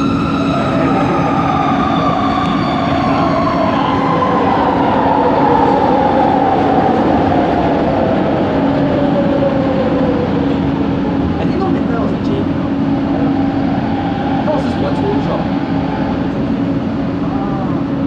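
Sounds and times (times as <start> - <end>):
train motor whine: 0.0 - 18.0
train rolling rumble: 0.0 - 18.0.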